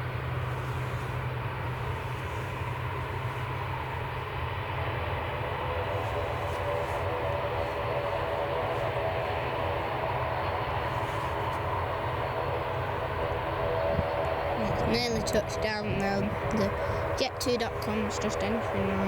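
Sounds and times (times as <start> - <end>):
distant jet engines rumbling: 0.0 - 19.0
faint jet whine: 0.0 - 19.0
wind buffeting microphone: 0.0 - 19.0.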